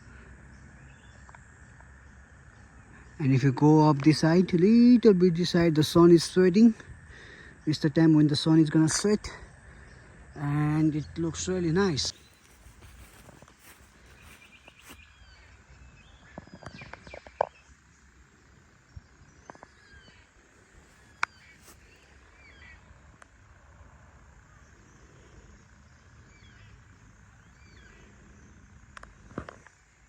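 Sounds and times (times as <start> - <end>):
birds chirping: 0.0 - 23.3, 24.3 - 29.9
low outdoor ambience: 0.0 - 30.0.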